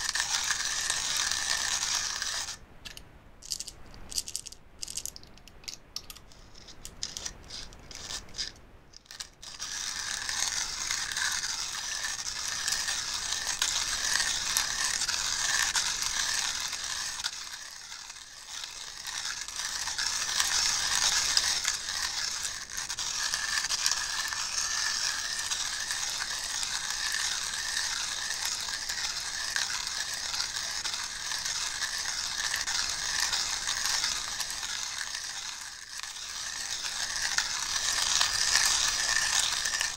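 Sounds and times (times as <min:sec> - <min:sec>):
coffee grinder grinding beans: 0:00.0 - 0:02.6, 0:06.1 - 0:39.9.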